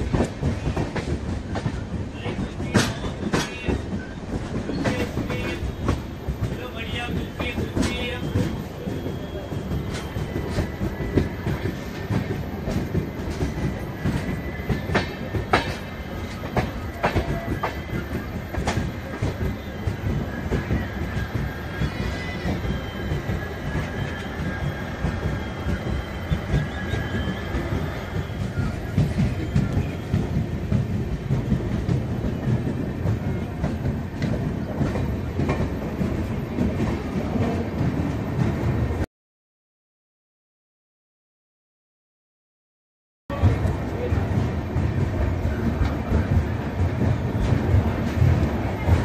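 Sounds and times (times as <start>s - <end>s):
train rumbling past: 0.0s - 39.1s, 43.3s - 49.0s.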